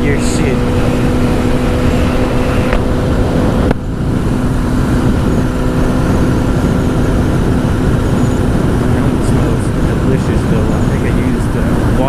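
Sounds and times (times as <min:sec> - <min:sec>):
motorcycle engine running: 0:00.0 - 0:12.0
rushing wind noise: 0:00.0 - 0:12.0.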